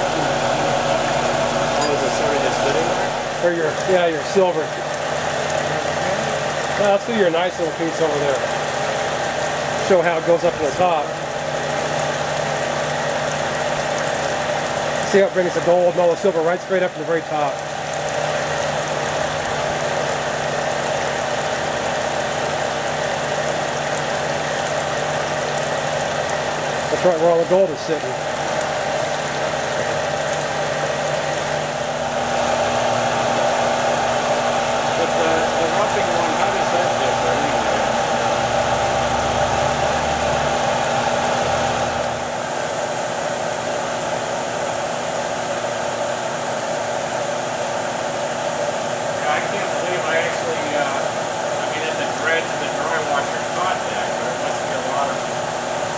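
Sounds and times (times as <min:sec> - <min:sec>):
steady machine hum: 0:00.0 - 0:55.9
water washing: 0:00.0 - 0:55.9.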